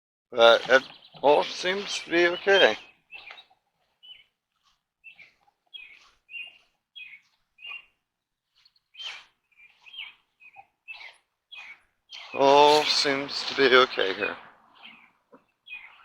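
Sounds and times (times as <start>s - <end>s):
small bird chirping: 0.4s - 16.0s.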